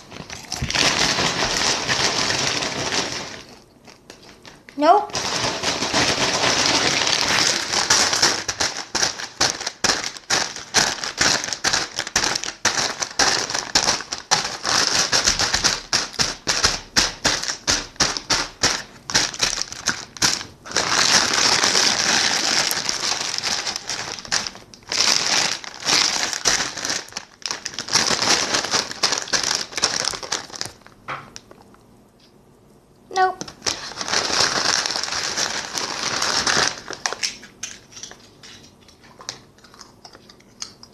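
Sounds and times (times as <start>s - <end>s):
chip bag crackling rustles: 0.0s - 31.7s, 33.4s - 40.0s.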